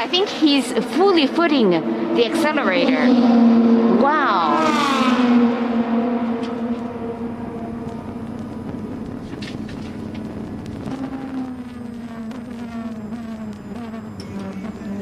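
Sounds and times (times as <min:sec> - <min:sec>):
race car engine running hard: 0:00.8 - 0:15.0.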